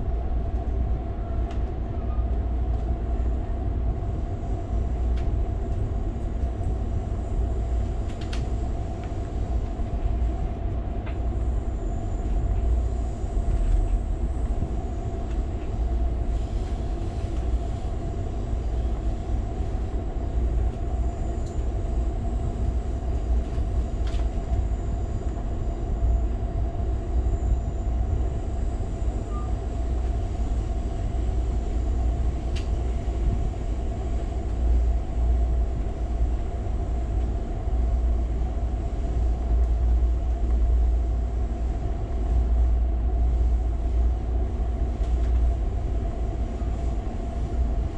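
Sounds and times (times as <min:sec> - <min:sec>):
constant hum: 0:00.0 - 0:47.9.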